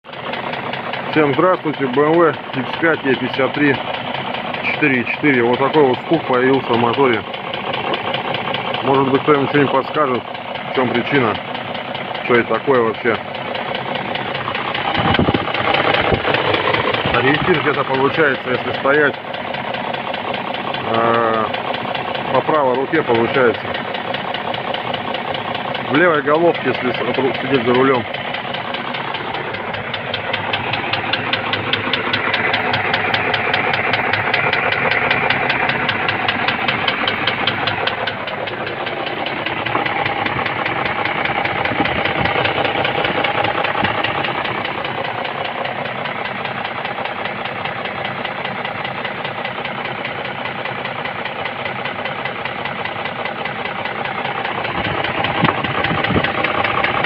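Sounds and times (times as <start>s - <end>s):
engine piston knock: 0.1s - 57.0s.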